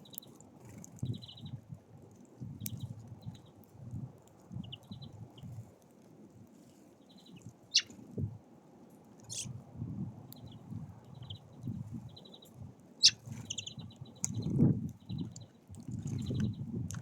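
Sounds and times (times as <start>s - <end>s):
songbirds chirping: 0.0s - 5.8s, 6.6s - 17.0s.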